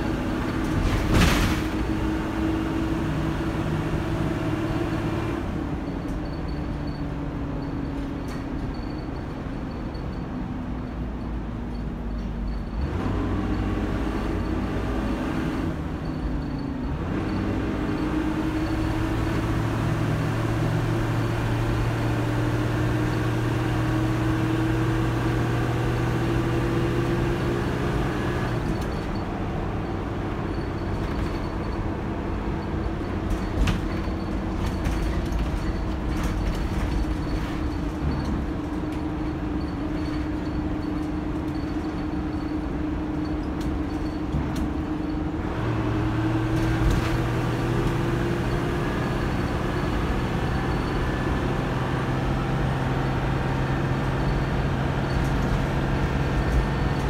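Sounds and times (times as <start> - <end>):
bus diesel engine changing gear: 0.0 - 57.0.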